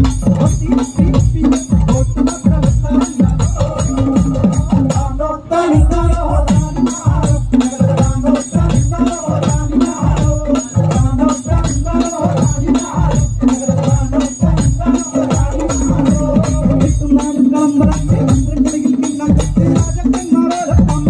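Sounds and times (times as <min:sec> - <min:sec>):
drums playing fast beat: 0:00.0 - 0:21.0.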